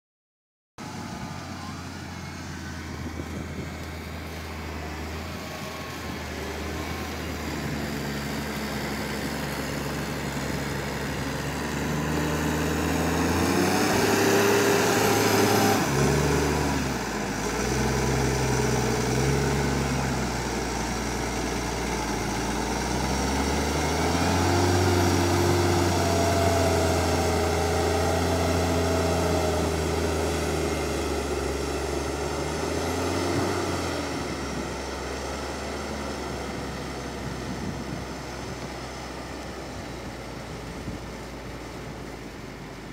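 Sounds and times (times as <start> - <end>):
tractor diesel engine under load: 0.8 - 42.9.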